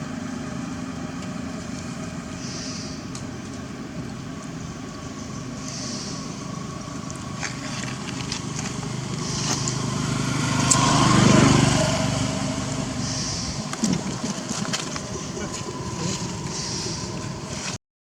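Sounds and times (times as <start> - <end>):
vehicle engine passing by: 0.0 - 17.8.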